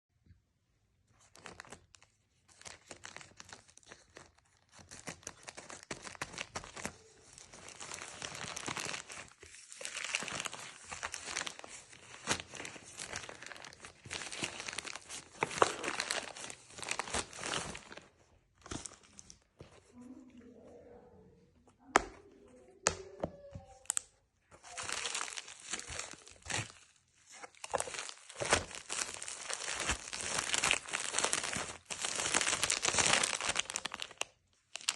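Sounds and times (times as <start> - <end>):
packaging crinkling and ripping: 1.2 - 19.5, 23.7 - 34.9.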